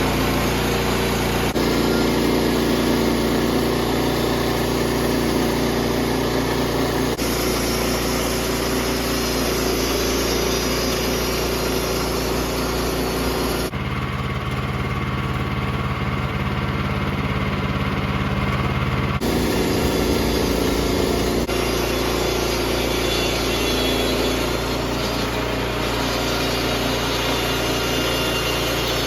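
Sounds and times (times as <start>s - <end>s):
small gasoline engine running: 0.0s - 29.0s.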